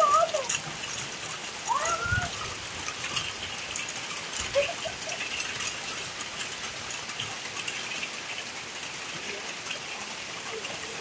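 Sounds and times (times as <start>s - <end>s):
rain on wet ground and puddles: 0.0s - 11.0s.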